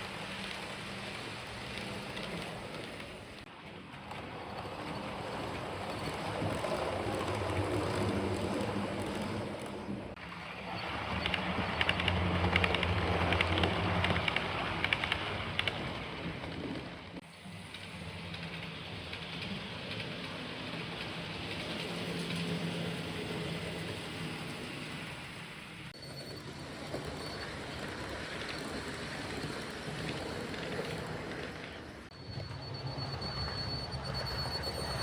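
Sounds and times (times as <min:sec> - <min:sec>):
model train wheels on rail: 0:00.0 - 0:35.0.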